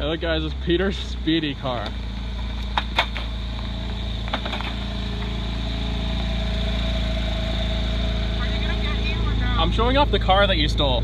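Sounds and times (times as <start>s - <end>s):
sports car engine idling: 0.0s - 11.0s.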